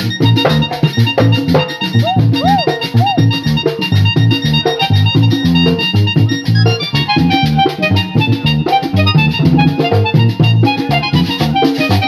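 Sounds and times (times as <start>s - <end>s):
accordion fast melody: 0.0s - 12.0s.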